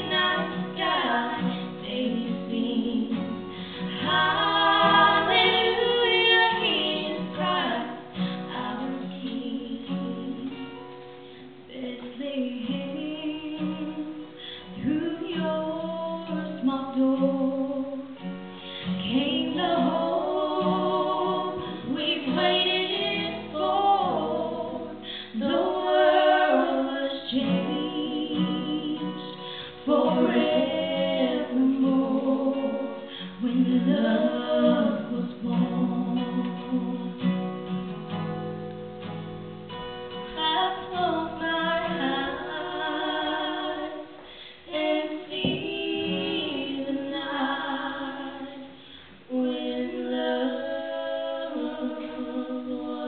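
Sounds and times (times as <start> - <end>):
two women singing: 0.0 - 38.2, 39.7 - 53.0
acoustic guitar: 0.0 - 53.0.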